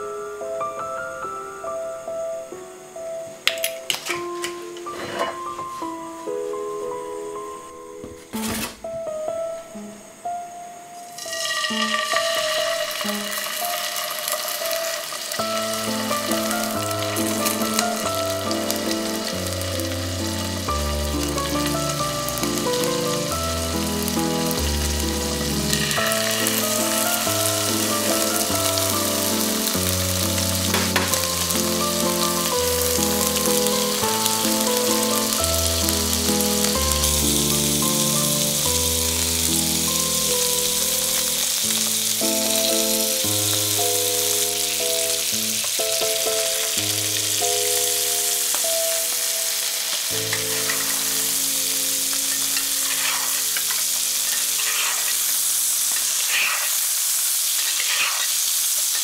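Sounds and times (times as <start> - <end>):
background music: 0.0 - 55.7
fish sizzling in a skillet: 11.0 - 59.0.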